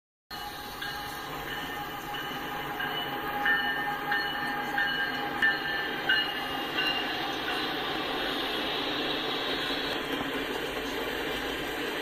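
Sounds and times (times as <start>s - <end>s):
freight train rumbling: 0.3s - 12.0s.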